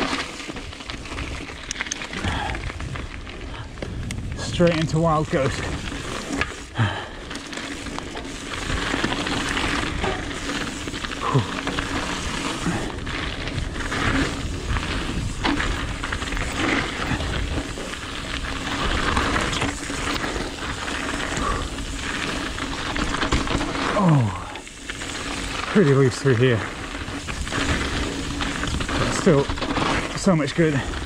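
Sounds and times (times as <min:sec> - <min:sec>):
bike knocking and rattling: 0:00.0 - 0:31.0
bike tyres crunching on gravel: 0:00.0 - 0:31.0.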